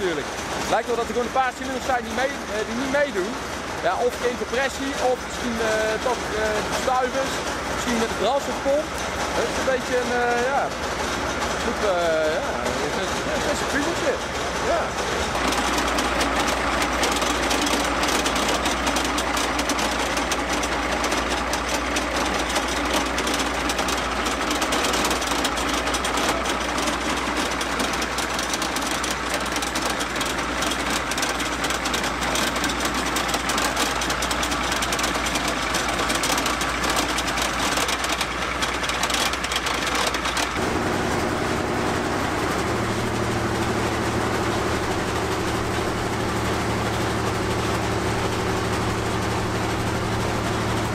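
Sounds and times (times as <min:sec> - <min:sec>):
diesel engine idling clatter: 0:00.0 - 0:50.9.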